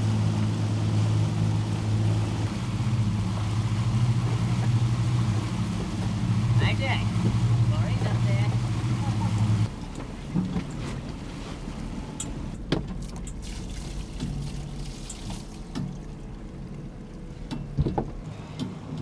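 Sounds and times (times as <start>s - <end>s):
outboard motor running: 0.0s - 19.0s
water splashing around hull: 0.0s - 19.0s.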